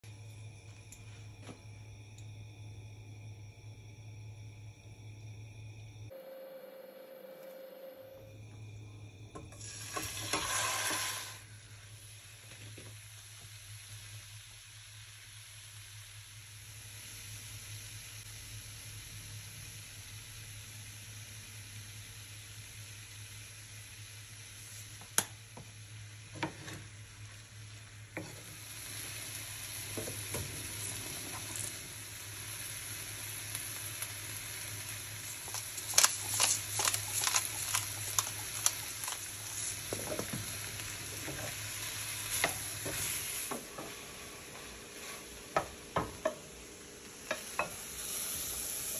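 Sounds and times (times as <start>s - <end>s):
chicken sizzling in a frying pan: 9.5s - 48.9s.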